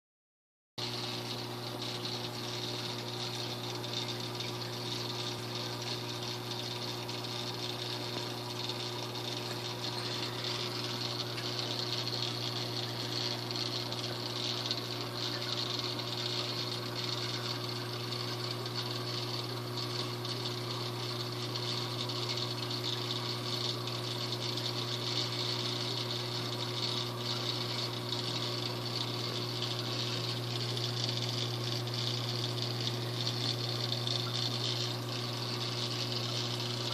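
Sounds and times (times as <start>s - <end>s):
aquarium pump humming: 0.8s - 36.9s.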